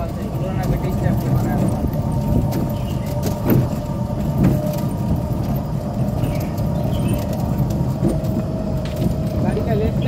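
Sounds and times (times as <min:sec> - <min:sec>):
tour vehicle rattling on rough path: 0:00.0 - 0:10.0.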